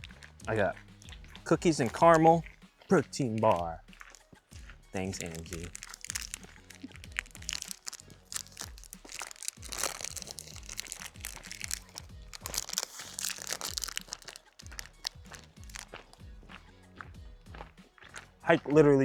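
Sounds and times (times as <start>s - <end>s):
crunching food: 0.0s - 18.6s
background music with bass: 0.0s - 19.0s
wrapper crinkling: 1.0s - 16.3s.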